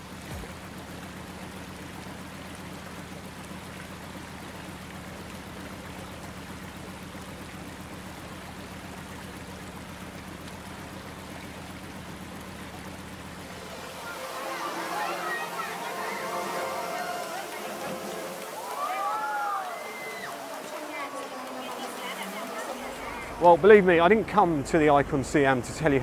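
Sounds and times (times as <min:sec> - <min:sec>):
ferry engine humming: 0:00.0 - 0:26.0
water rushing along hull: 0:00.0 - 0:26.0.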